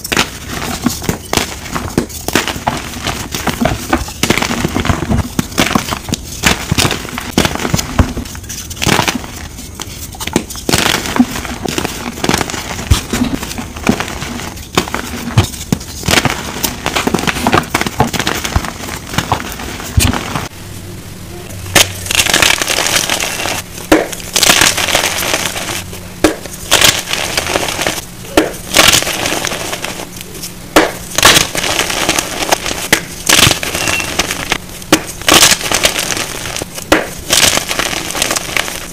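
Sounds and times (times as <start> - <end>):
faint low hum: 0.0 - 38.9.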